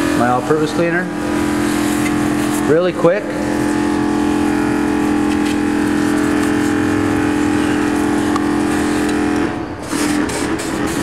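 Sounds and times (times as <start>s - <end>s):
pressure washer motor hum: 0.0s - 11.0s.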